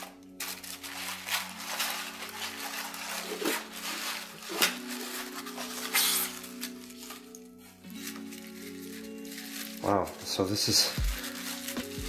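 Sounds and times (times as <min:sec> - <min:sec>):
soft background music: 0:00.0 - 0:12.0
tissue paper rustling: 0:00.0 - 0:12.0.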